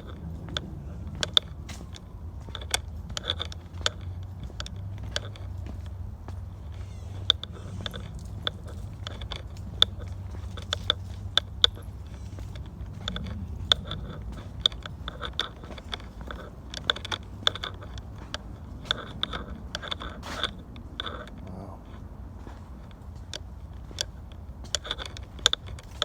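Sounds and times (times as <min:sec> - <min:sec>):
footsteps crunching on trail: 0:00.0 - 0:26.0
low steady rumble: 0:00.0 - 0:26.0.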